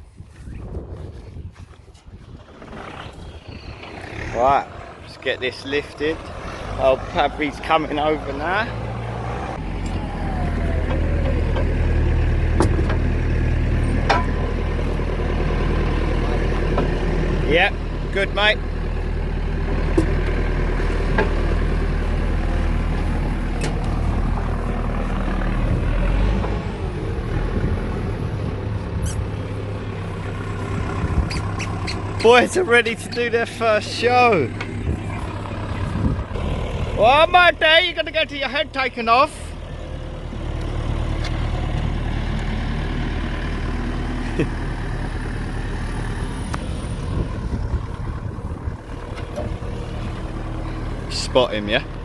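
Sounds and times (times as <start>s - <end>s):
large engine humming: 0.0s - 52.0s.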